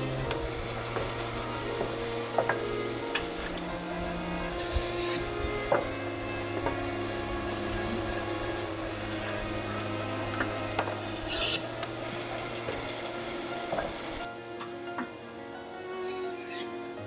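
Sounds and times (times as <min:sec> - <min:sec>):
forming machine humming: 0:00.0 - 0:17.0.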